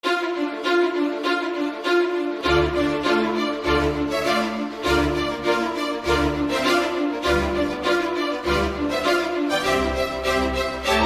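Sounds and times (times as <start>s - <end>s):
bowed strings: 0.0s - 11.0s.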